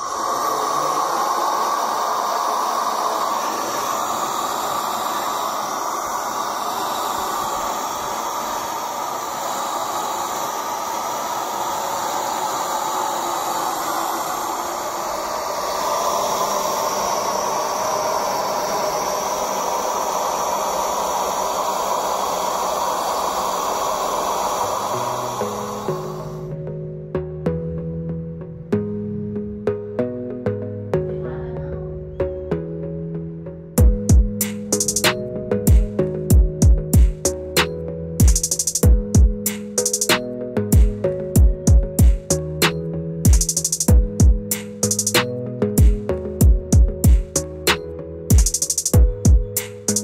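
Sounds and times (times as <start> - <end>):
fan rushing hiss of air: 0.0 - 26.6, 33.8 - 50.0.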